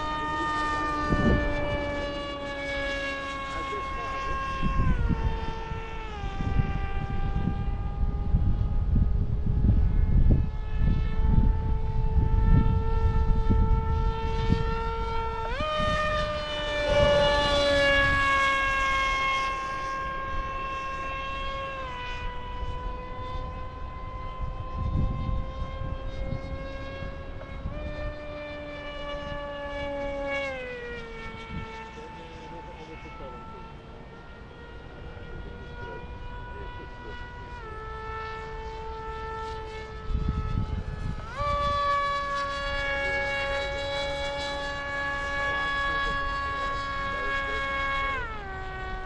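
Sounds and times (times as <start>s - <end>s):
model jet motor whine: 0.0s - 49.0s
wind rumbling on microphone: 0.0s - 49.0s.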